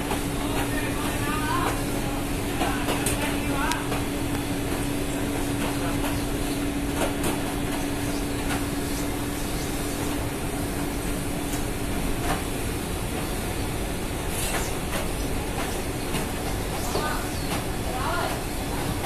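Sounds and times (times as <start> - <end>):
ship machinery noise: 0.0 - 19.0
steady hum: 0.0 - 19.0.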